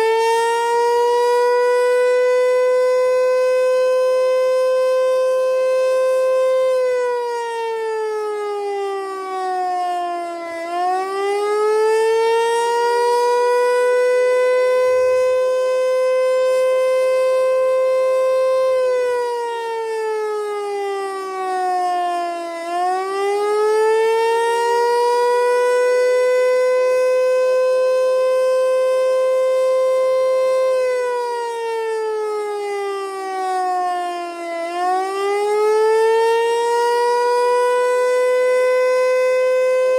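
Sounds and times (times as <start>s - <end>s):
tornado siren wailing: 0.0s - 39.9s.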